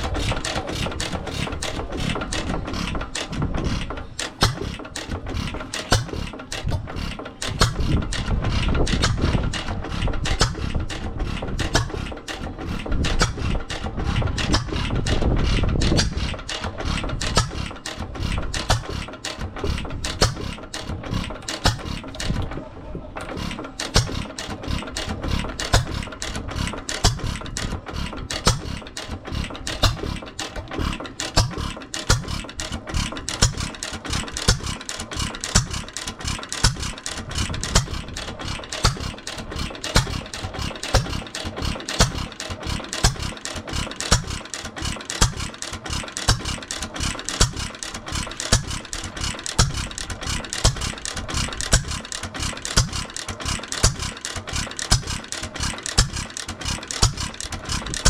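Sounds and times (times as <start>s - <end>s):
engine mechanical clatter: 0.0s - 58.0s.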